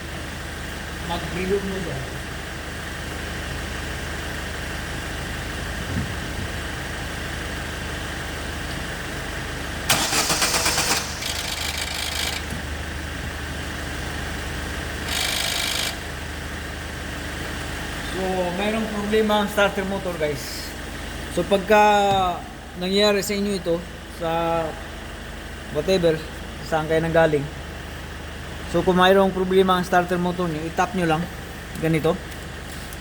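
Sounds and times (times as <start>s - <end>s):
car engine idling: 0.0s - 32.6s.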